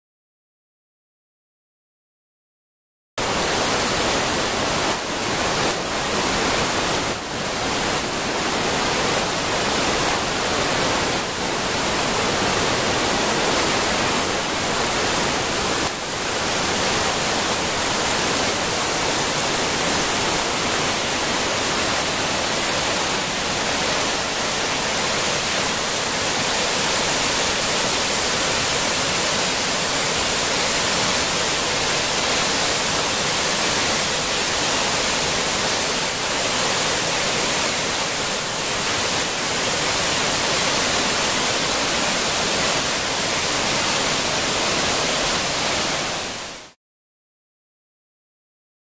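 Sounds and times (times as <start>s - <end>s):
whitewater rushing over boulders: 3.2s - 46.8s.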